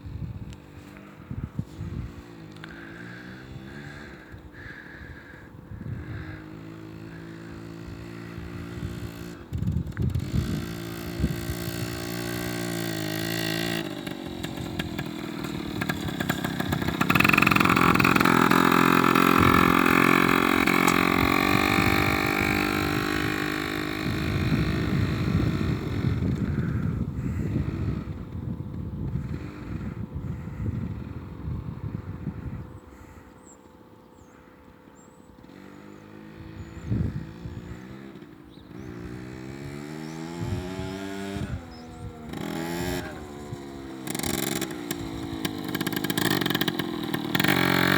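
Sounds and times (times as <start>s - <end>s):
motorcycle engine revving: 0.0s - 33.5s, 34.4s - 47.9s.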